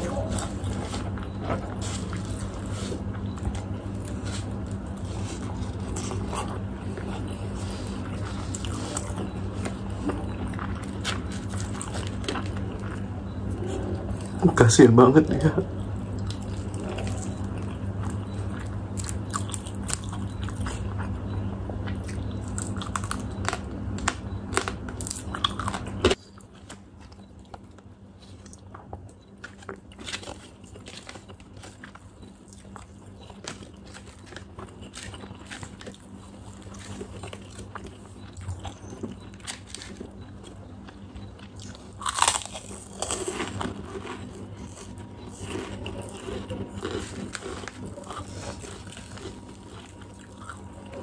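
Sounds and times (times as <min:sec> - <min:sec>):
crunchy chewing: 0:00.0 - 0:51.0
steady low hum: 0:00.0 - 0:51.0.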